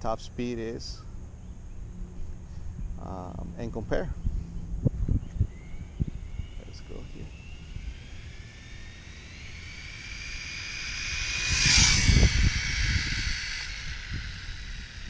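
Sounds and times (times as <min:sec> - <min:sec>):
rc car motor whining: 0:01.2 - 0:15.0.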